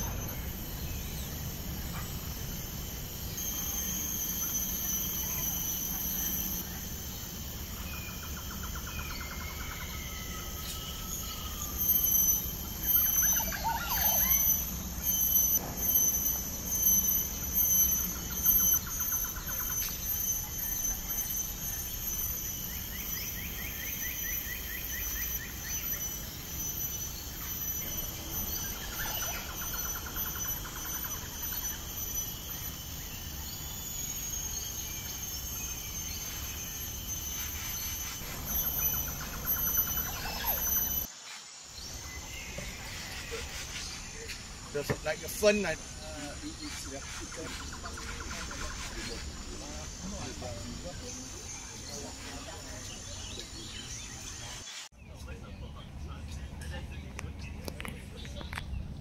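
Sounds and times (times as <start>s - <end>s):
pulsing calls: 0.0s - 41.1s, 41.9s - 54.7s
birds calling and trilling: 0.0s - 59.0s
insects buzzing: 0.0s - 59.0s.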